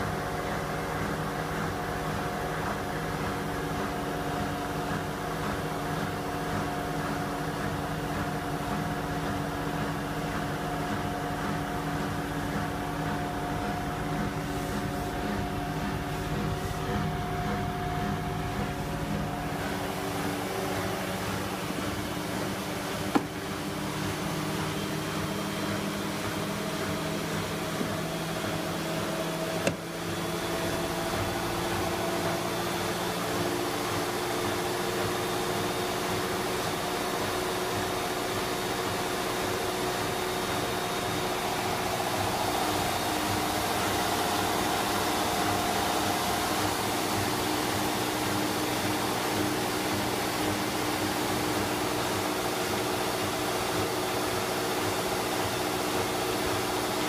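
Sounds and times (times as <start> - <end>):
washer drum spinning hum: 0.0 - 57.0.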